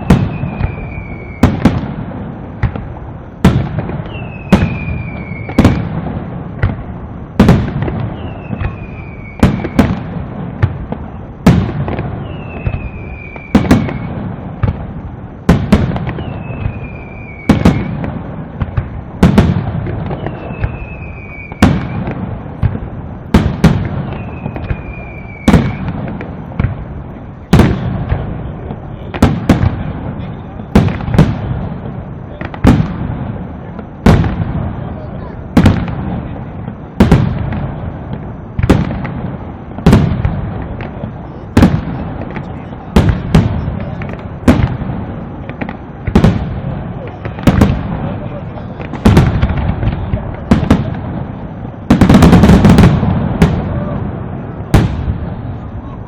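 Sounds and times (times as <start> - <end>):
falling firework whistle: 0.0 - 56.0
fireworks bursting bangs: 0.0 - 56.0.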